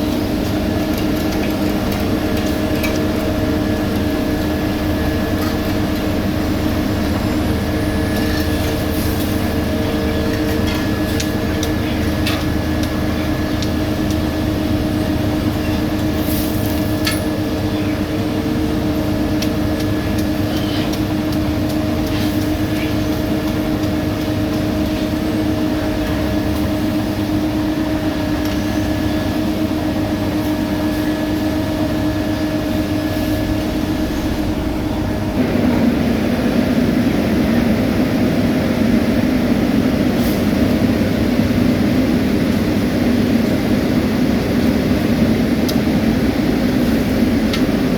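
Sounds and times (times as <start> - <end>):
diesel construction machine running: 0.0 - 47.9.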